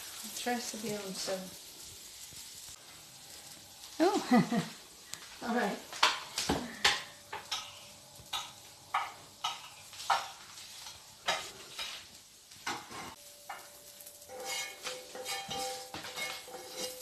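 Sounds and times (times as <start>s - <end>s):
food stirred in frying pan: 0.0s - 17.0s.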